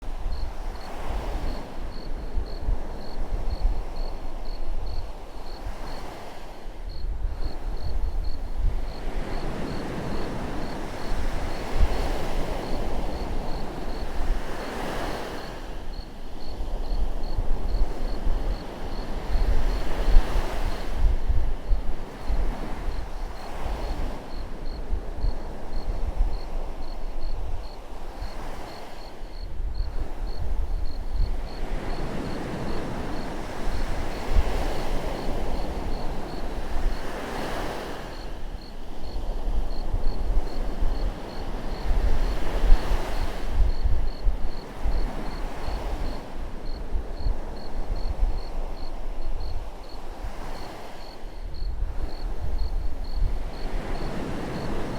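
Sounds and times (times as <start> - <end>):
ocean waves breaking on shore: 0.0 - 54.9
wind buffeting microphone: 0.0 - 54.9.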